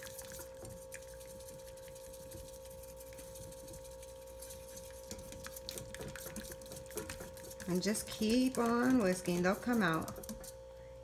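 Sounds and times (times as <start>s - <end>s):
whisk stirring in saucepan: 0.0s - 10.6s.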